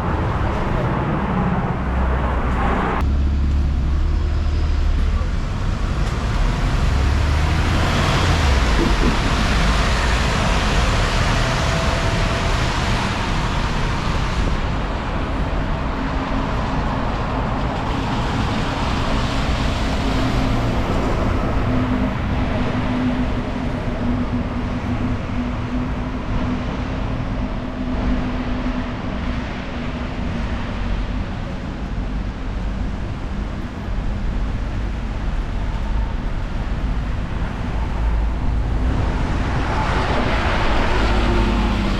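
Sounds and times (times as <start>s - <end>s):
steady engine hum: 0.0s - 41.9s
vehicles passing: 0.0s - 41.9s
wind buffeting microphone: 5.2s - 41.9s.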